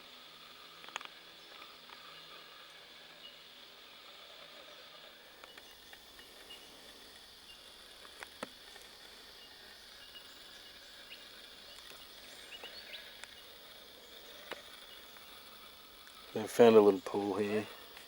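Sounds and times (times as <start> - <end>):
insect hum: 0.0 - 18.0.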